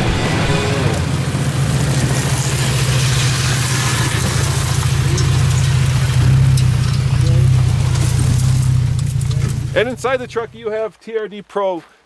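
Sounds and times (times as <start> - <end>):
truck engine running low speed: 0.0 - 10.8.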